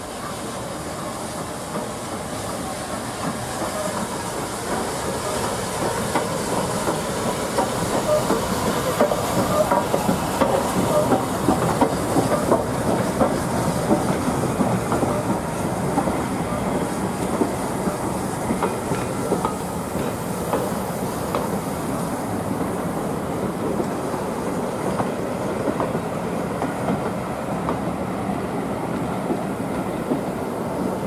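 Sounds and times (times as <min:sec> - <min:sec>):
train wheels clattering over rail joints: 0:01.3 - 0:27.9.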